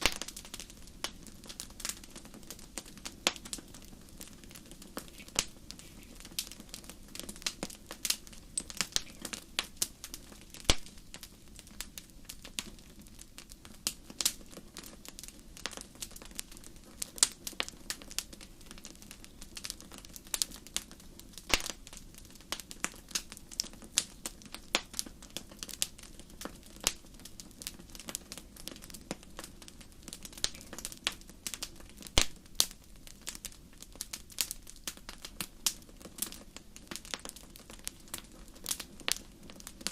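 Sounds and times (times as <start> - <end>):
flames hissing: 0.0 - 37.2
wood fire crackling and popping: 0.0 - 39.9.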